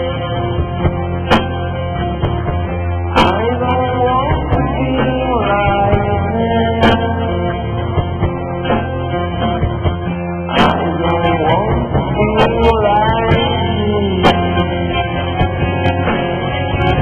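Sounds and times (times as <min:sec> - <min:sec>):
rock song with guitars: 0:00.0 - 0:17.0
steady low bass: 0:00.0 - 0:17.0.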